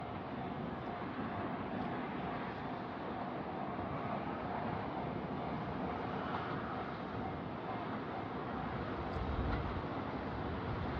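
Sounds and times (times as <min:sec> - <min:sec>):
freight train rumble: 0:00.0 - 0:10.9.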